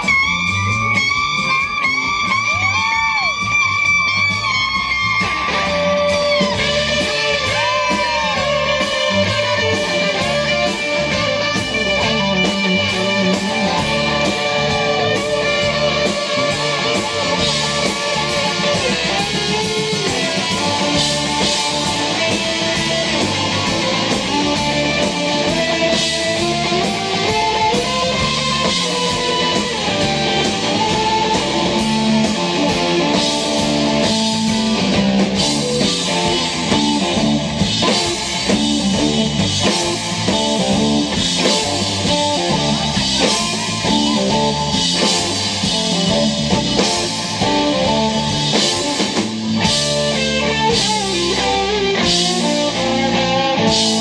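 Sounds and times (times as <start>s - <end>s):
bass: 0.0s - 54.0s
drum kit with cymbals: 0.0s - 54.0s
electric guitar lead: 0.0s - 54.0s.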